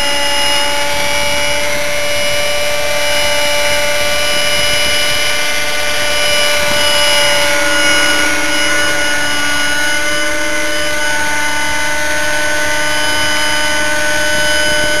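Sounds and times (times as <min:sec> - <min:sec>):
model helicopter engine whine: 0:00.0 - 0:15.0.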